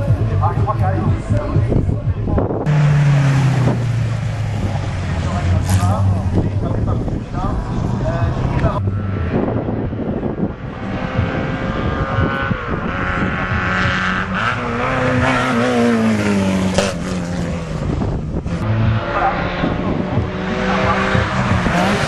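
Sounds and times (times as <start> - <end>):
racing car engines revving: 0.0 - 22.0.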